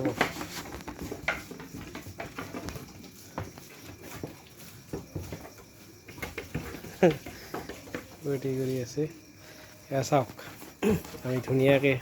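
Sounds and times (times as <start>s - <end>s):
hooves tapping and knocking: 0.0s - 12.0s.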